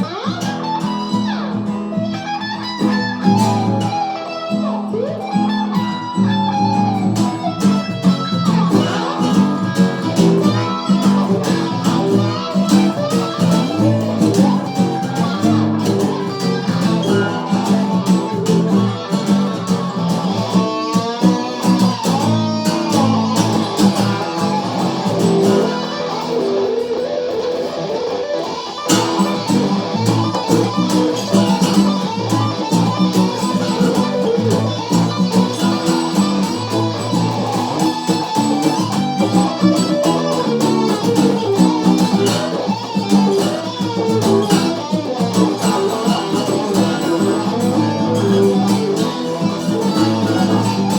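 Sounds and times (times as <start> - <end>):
electric guitar picking notes: 0.0 - 50.9.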